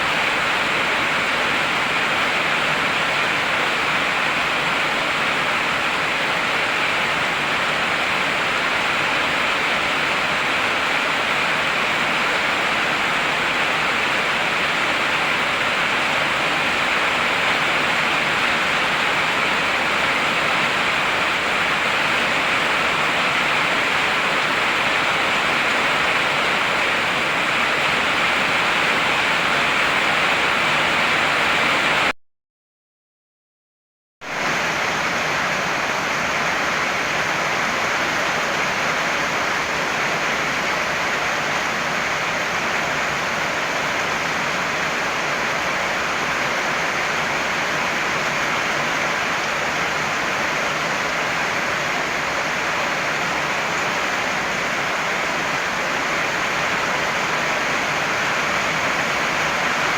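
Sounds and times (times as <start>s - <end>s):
heavy rain falling: 0.0s - 32.1s, 34.3s - 59.9s.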